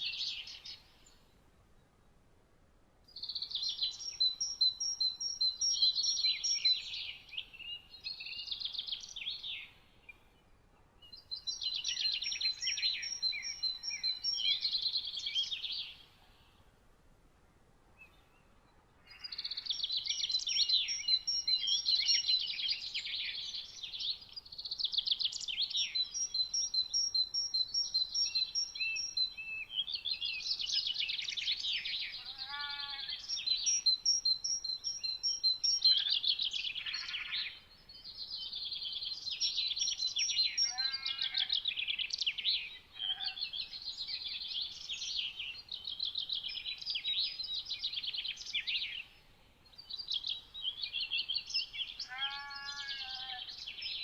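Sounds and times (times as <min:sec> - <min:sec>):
songbirds singing: 0:00.0 - 0:02.1, 0:03.1 - 0:16.8, 0:17.9 - 0:54.0.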